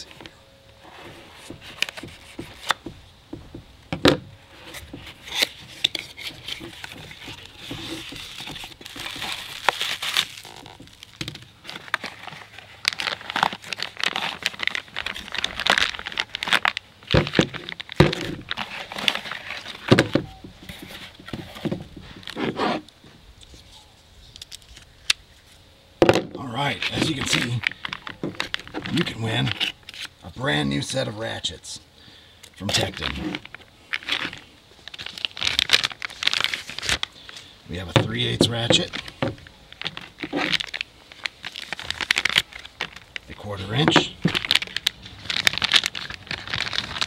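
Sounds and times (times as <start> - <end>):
plastic and paper crinkling: 0.0 - 22.7, 23.4 - 31.4, 32.6 - 47.0.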